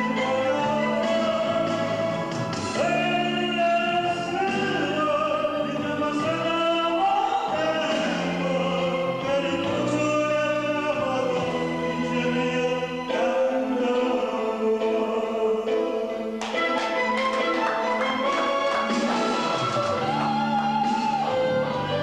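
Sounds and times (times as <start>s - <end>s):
musical accompaniment: 0.0s - 22.0s
person singing pop song: 0.0s - 22.0s.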